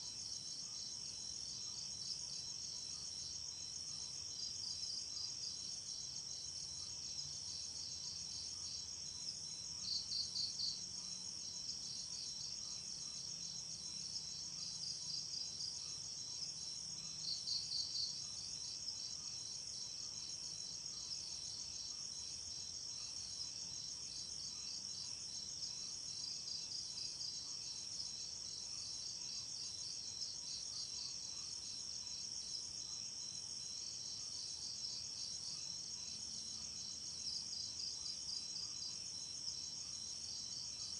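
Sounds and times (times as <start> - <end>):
insect chirps: 0.0 - 40.9.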